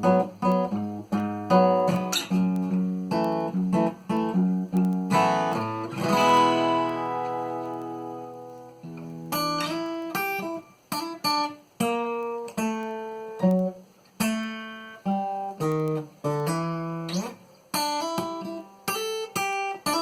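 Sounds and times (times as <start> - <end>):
acoustic guitar fingerstyle: 0.0 - 20.0.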